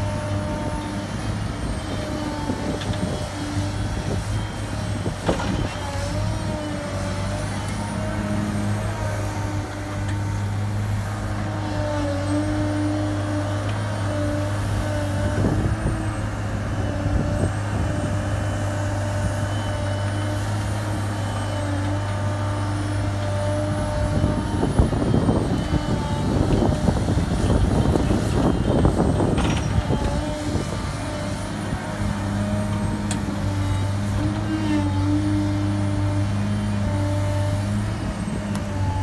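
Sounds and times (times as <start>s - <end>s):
excavator diesel engine and hydraulics: 0.0s - 39.0s.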